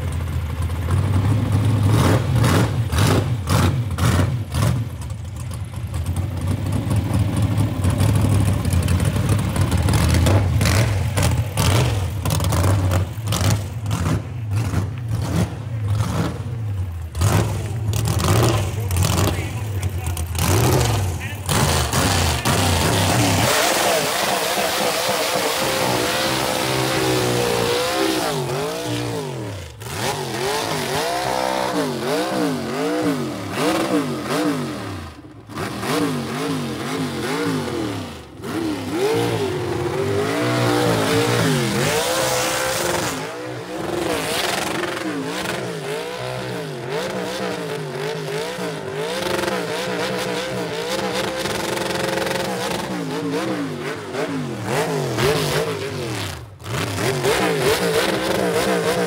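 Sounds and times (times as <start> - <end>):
car engine revving hard: 1.8 - 4.9, 9.9 - 59.0.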